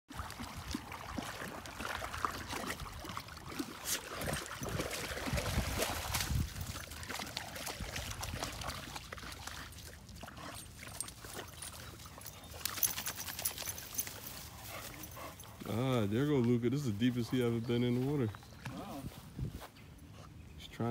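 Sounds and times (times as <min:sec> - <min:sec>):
dogs splashing through water: 0:00.1 - 0:19.2.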